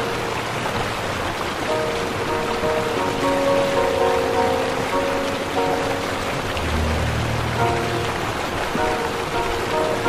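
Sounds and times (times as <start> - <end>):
heavy rain hissing: 0.0 - 10.0
slow soft background music: 0.0 - 10.0.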